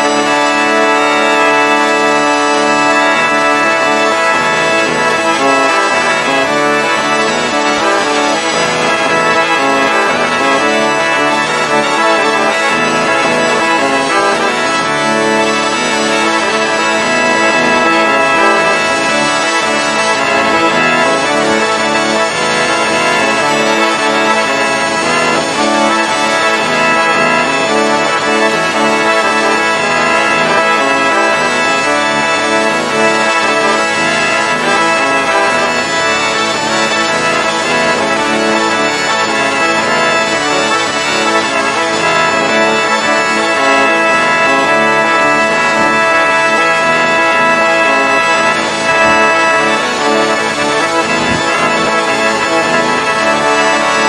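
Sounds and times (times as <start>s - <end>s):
bagpipes playing a melody: 0.0s - 54.0s.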